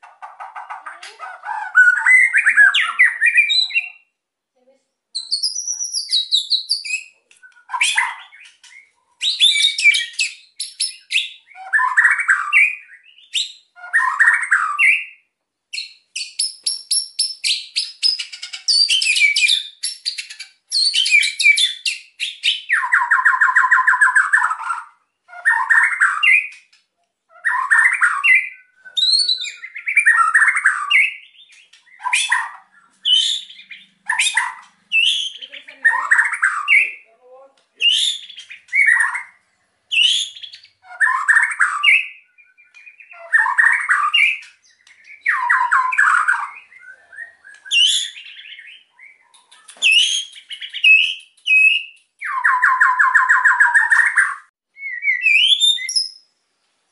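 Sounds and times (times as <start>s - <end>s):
bird singing varied song: 0.0s - 4.2s, 5.0s - 56.5s.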